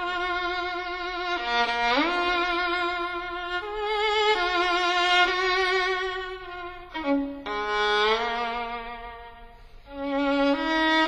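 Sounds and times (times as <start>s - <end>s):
solo violin slow notes: 0.0s - 11.0s.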